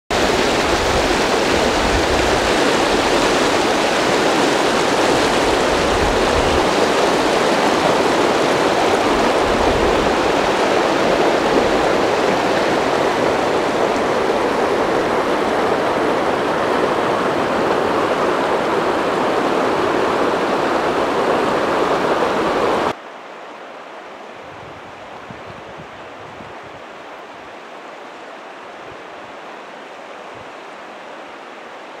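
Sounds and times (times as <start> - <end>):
river rushing over rocks: 0.1 - 32.0.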